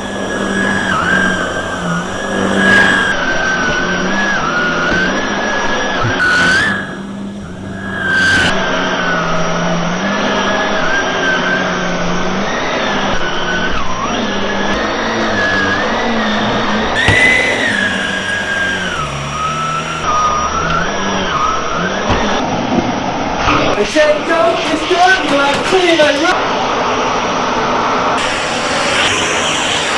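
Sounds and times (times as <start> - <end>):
vacuum cleaner running: 0.0 - 22.6, 23.5 - 29.9.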